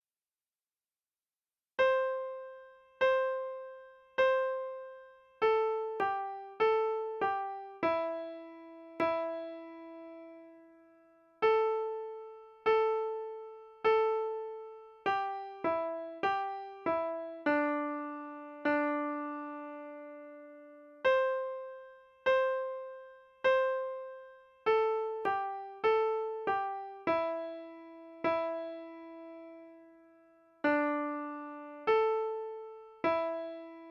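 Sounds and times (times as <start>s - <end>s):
piano melody: 1.8s - 33.9s.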